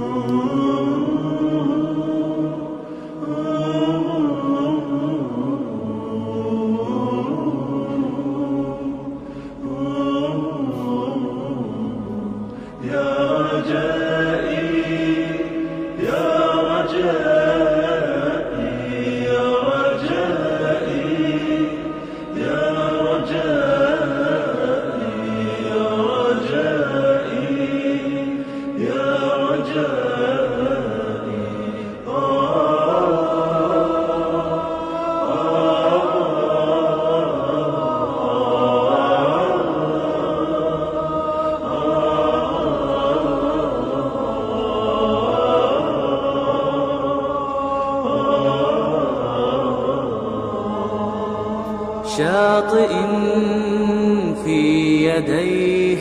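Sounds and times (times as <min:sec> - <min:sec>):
devotional song melody: 0:00.0 - 0:56.0.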